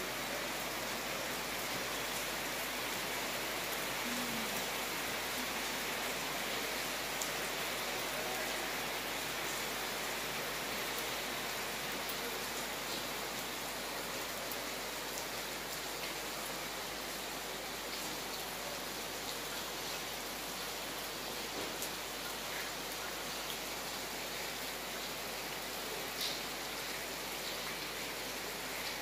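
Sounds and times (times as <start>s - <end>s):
heavy rain on wet street: 0.0s - 29.0s.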